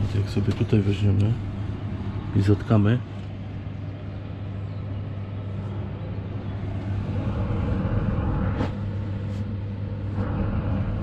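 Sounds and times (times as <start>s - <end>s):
air conditioner hum and fan: 0.0s - 11.0s.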